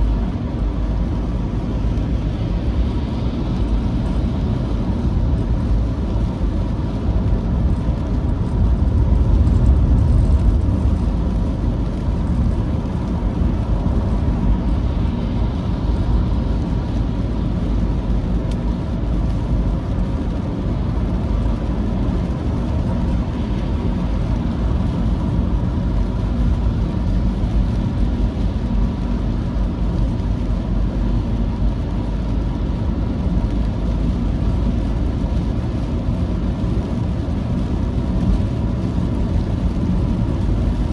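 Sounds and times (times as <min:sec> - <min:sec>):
vehicle rumbling on wet road: 0:00.0 - 0:40.9.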